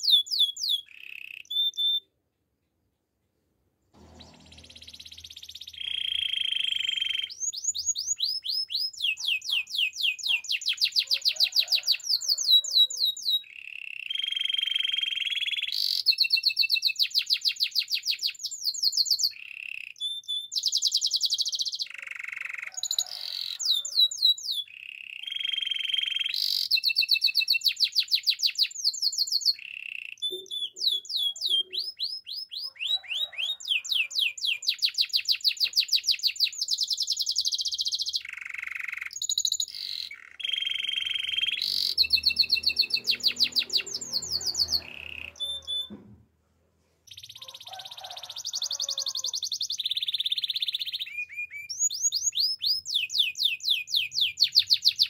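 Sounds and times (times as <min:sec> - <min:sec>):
canary singing trills: 0:00.0 - 0:02.1, 0:04.0 - 0:46.0, 0:47.1 - 0:55.0.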